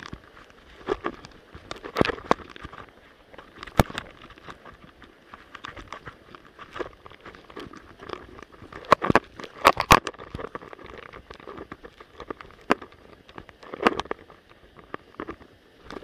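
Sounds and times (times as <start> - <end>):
sharp clicks and knocks: 0.0 - 16.0.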